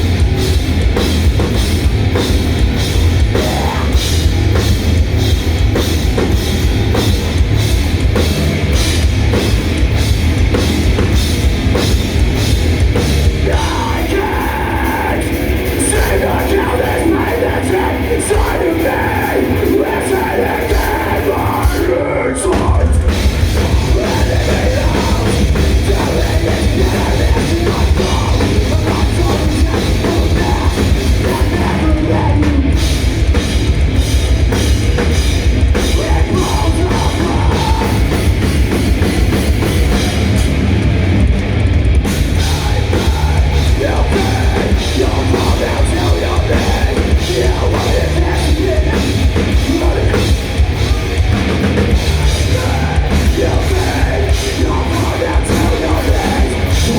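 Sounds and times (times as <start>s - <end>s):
bass guitar: 0.0s - 56.9s
distorted guitars: 0.0s - 56.9s
fast drumming on drum kit: 0.0s - 56.9s.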